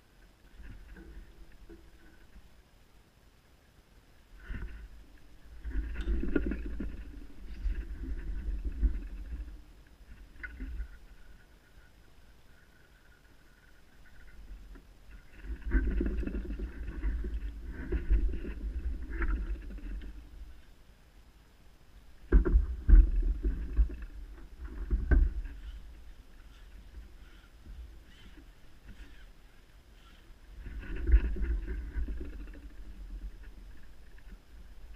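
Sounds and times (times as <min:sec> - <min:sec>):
fishing pole handling rumble: 0:04.4 - 0:11.9, 0:12.5 - 0:20.7, 0:22.2 - 0:34.9.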